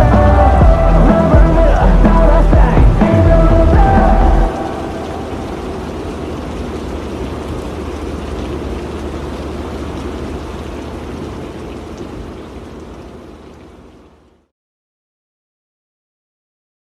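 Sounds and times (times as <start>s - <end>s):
rain on a car: 0.0s - 14.5s.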